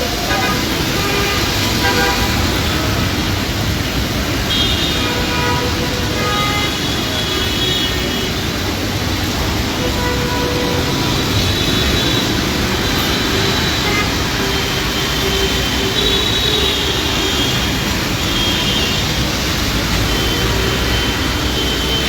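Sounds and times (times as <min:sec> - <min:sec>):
heavy rain: 0:00.0 - 0:22.0
road traffic: 0:00.0 - 0:22.0.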